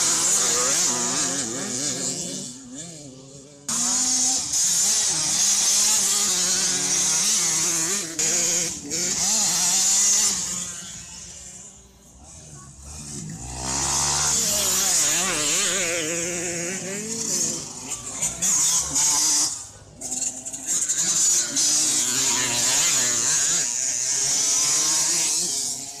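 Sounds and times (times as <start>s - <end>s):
motocross bikes revving: 0.0s - 26.0s.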